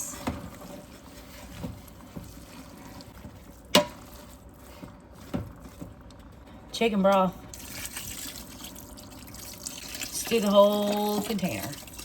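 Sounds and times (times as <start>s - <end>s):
food stirred in a pot: 0.0s - 12.0s.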